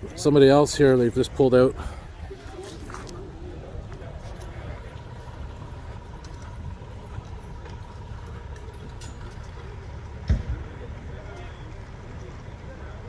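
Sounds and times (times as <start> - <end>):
idling vehicle engines: 0.0 - 13.0.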